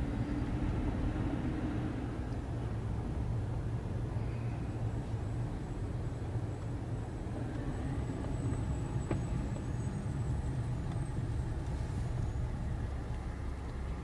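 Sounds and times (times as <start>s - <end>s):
car engine and tyres rumble: 0.0s - 14.0s.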